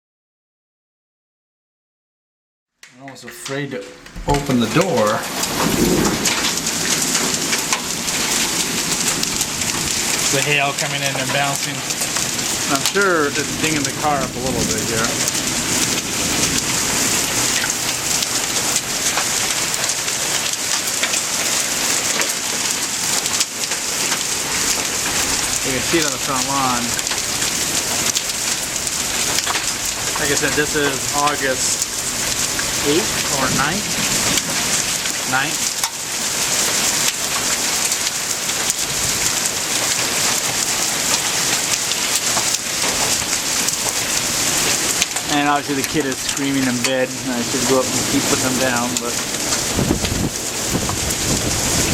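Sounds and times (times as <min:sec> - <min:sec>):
heavy rain hissing: 0:04.0 - 0:51.9
hailstones ticking on hard surfaces: 0:04.1 - 0:51.9.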